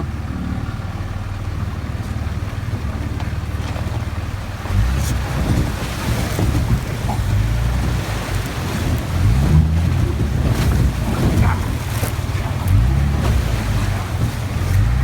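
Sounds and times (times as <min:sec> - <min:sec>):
diesel truck engine under load: 0:00.0 - 0:15.0
water rushing and splashing: 0:00.0 - 0:15.0.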